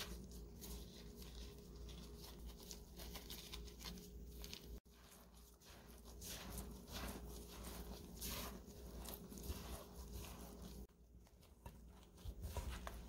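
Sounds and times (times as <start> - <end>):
hand kneading dough squishing: 0.0 - 13.0.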